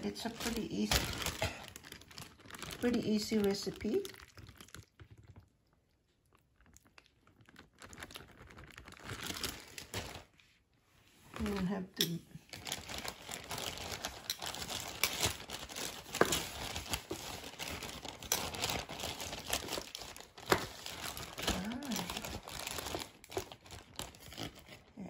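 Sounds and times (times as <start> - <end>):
plastic container crinkling: 0.0 - 10.4, 12.5 - 24.9.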